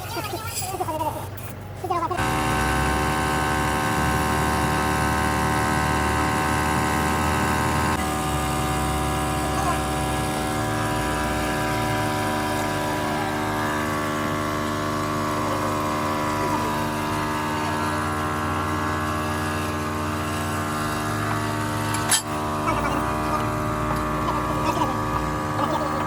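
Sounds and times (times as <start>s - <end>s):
engine running steadily: 1.2s - 26.0s.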